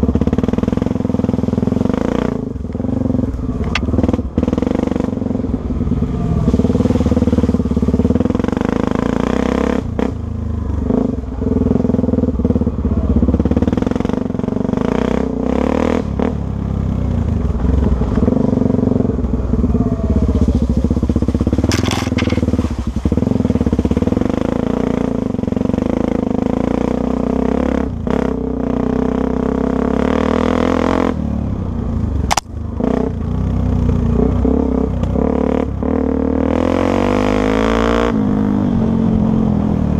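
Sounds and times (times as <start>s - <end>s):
dirt bike engine running: 0.0s - 36.2s.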